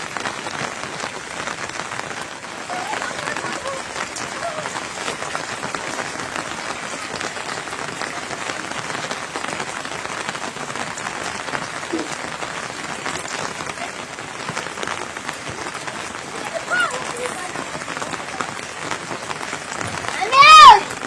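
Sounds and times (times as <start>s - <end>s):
rain patter on a surface: 0.0s - 21.0s.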